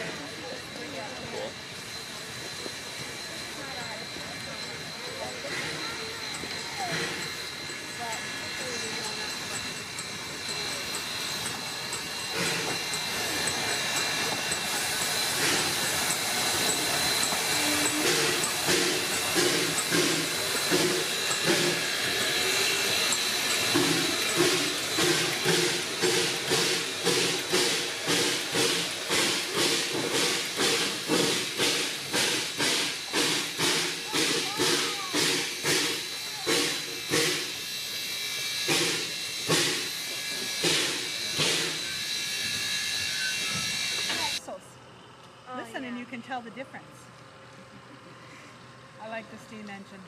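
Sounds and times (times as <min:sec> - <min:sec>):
steam hissing: 0:00.0 - 0:44.5
steam locomotive rolling past: 0:00.0 - 0:50.0.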